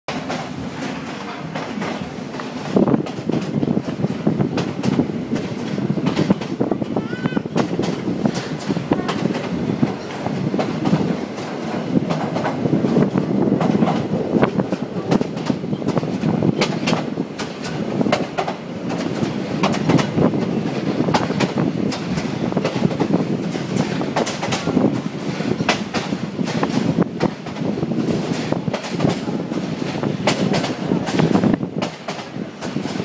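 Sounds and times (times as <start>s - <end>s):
train carriage rumbling: 0.1s - 33.0s
wheels clattering over rails: 0.1s - 33.0s.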